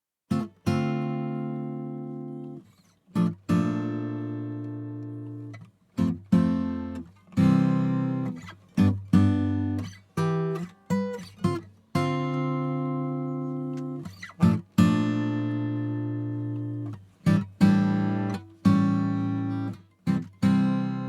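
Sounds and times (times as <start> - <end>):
acoustic guitar strumming chords: 0.3 - 2.6, 3.2 - 21.0.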